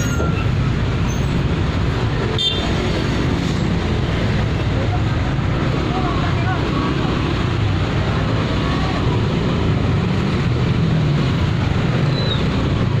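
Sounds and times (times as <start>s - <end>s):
truck engines running: 0.0s - 13.0s.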